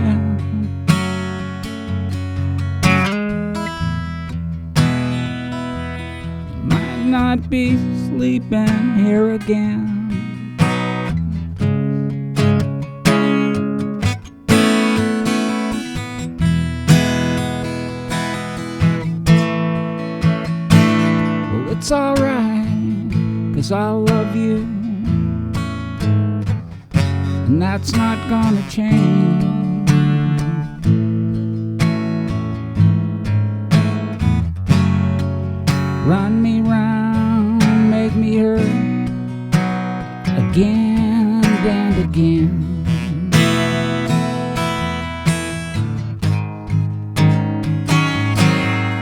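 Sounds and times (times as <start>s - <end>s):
acoustic guitar strumming chords: 0.0s - 49.0s.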